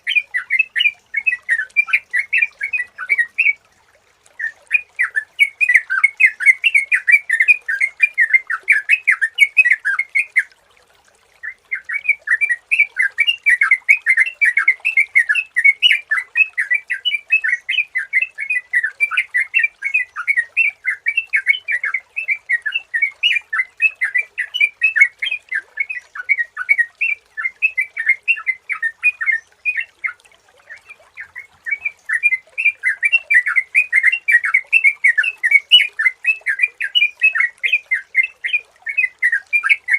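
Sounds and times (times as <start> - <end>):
bird singing bubbling notes: 0.0 - 39.9.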